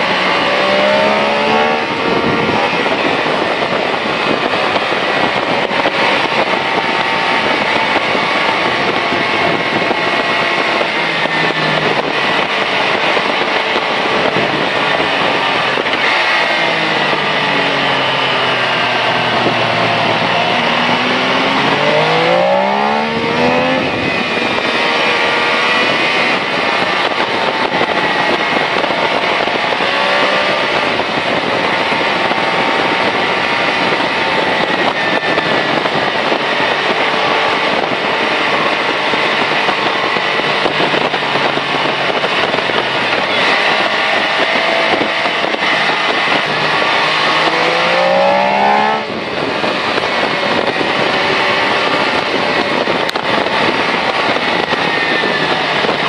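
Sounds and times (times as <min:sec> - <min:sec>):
motorcycle engine running: 0:00.0 - 0:56.0
wind noise: 0:00.0 - 0:56.0.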